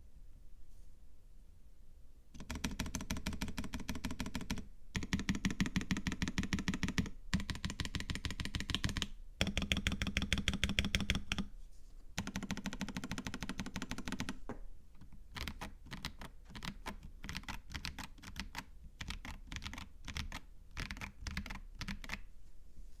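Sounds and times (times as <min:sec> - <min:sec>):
typing on mechanical keyboard: 0:02.4 - 0:11.5, 0:12.2 - 0:14.4, 0:15.0 - 0:22.3.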